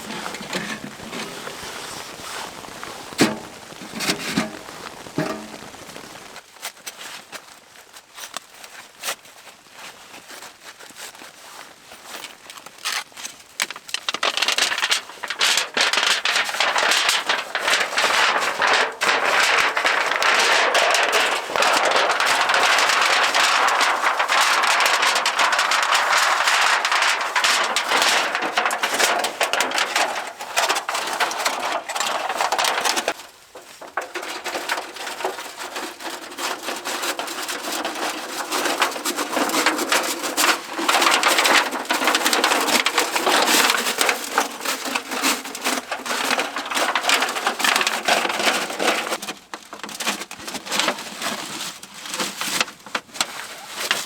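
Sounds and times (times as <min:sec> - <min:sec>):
crackling and snapping: 0:00.0 - 0:09.8, 0:12.2 - 0:54.0.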